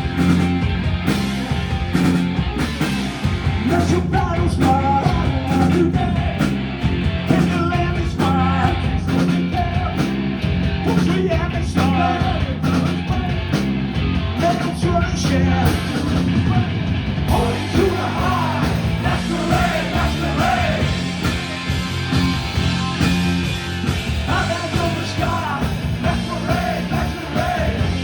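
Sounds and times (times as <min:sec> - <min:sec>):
bass guitar: 0:00.0 - 0:28.0
distorted guitars: 0:00.0 - 0:28.0
steady drumbeat: 0:00.0 - 0:28.0.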